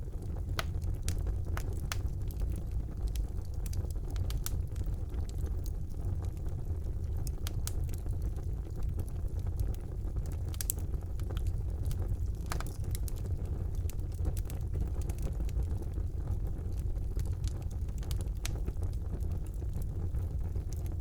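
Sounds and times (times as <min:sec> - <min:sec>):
fire crackles and pops: 0:00.0 - 0:21.0
fire rumbling in fireplace: 0:00.0 - 0:21.0.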